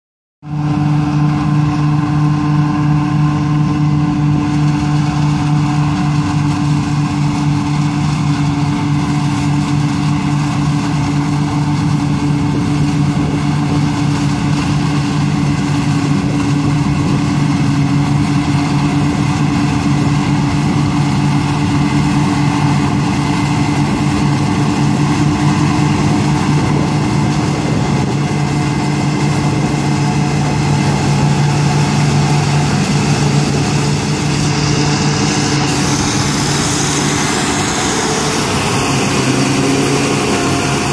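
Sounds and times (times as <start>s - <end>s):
harvester engine running: 0.4s - 40.9s.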